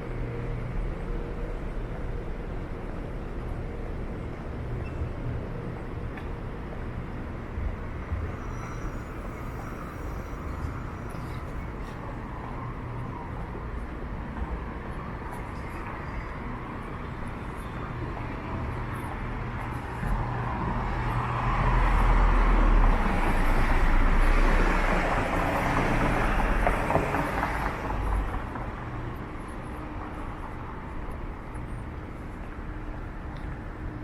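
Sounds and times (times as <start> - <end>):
street noise: 0.0 - 34.0.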